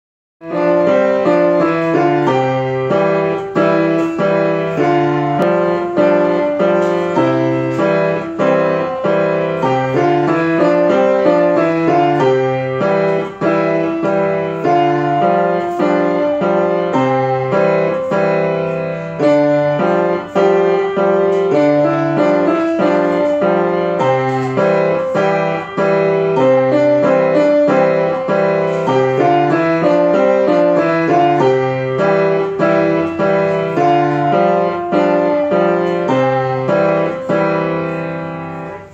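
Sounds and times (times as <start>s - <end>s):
grand piano playing: 0.4s - 38.9s.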